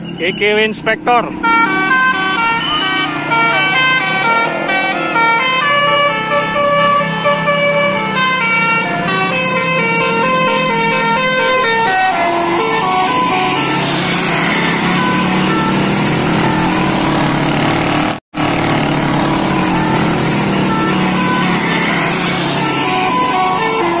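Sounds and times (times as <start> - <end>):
bus engine running: 0.0 - 24.0
air horn playing melody: 1.4 - 24.0.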